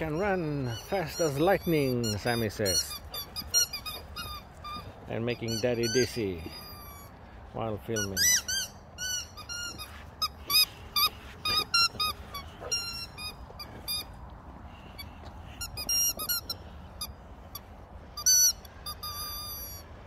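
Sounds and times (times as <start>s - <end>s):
rubber dog toys squeaking: 0.0s - 7.2s, 7.9s - 14.1s, 15.0s - 20.0s.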